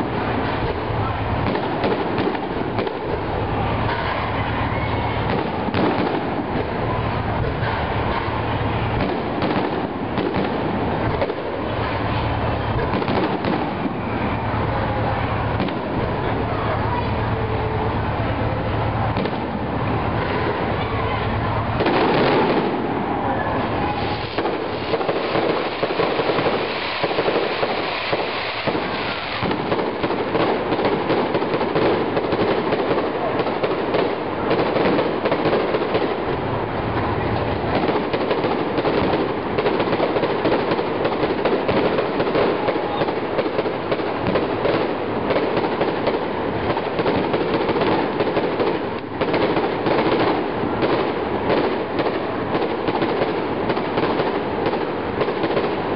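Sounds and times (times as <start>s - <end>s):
fireworks crackling bangs: 0.0s - 55.9s.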